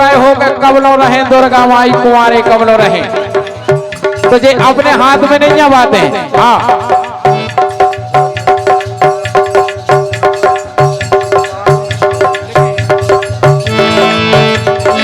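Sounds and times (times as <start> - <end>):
hand drum rhythm: 0.5 - 15.0
held chords: 1.9 - 15.0
repeating melody: 2.3 - 15.0.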